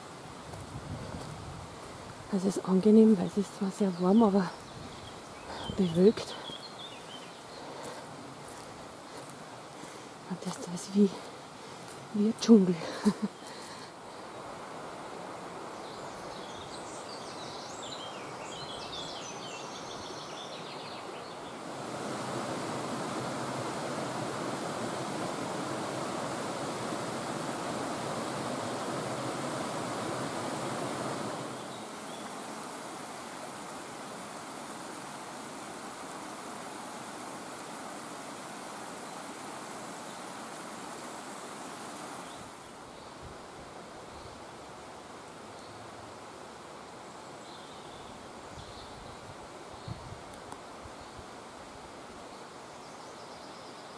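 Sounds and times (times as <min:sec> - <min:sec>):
stream rushing over rocks: 0:00.0 - 0:52.8.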